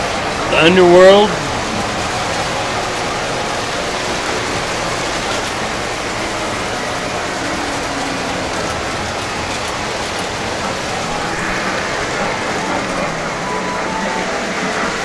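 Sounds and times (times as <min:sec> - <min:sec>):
model train wheels on track: 0:01.6 - 0:15.0.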